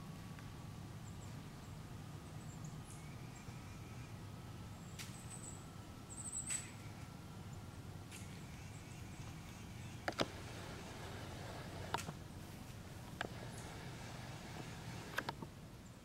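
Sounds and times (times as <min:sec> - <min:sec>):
low steady hum: 0:00.0 - 0:16.0
small birds chirping: 0:00.3 - 0:16.0.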